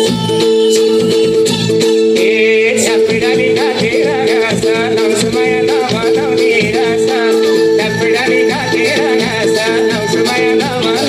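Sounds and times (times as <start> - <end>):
steady drum beat: 0.0 - 11.0
person singing: 2.1 - 11.0.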